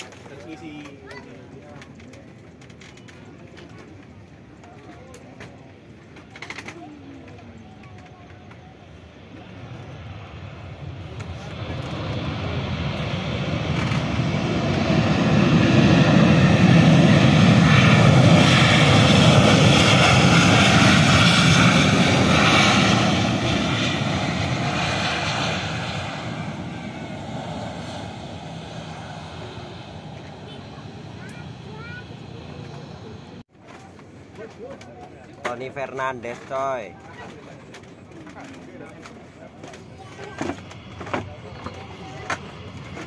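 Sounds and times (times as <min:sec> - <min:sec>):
jet engine roar: 0:00.0 - 0:43.0
jet engine whine: 0:00.0 - 0:43.0.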